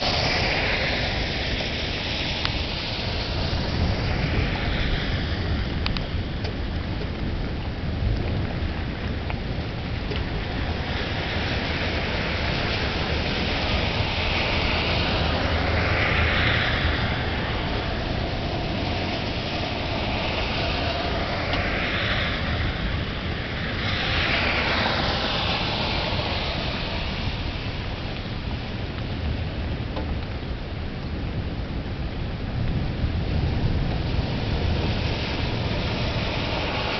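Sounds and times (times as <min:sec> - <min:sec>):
heavy rain hissing: 0:00.0 - 0:07.0, 0:07.7 - 0:36.9
wind rumble on microphone: 0:00.0 - 0:36.9.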